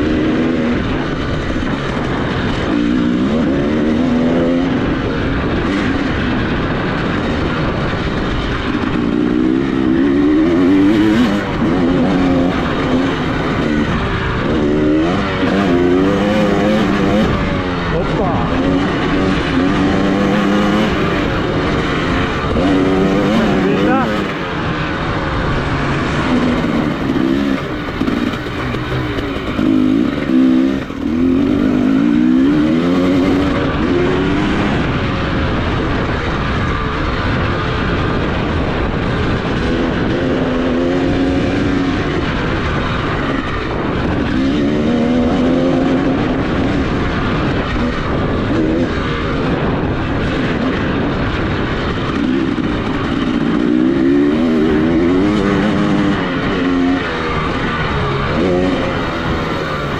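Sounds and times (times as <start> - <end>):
off-road motorcycle engine revving: 0.0 - 59.9.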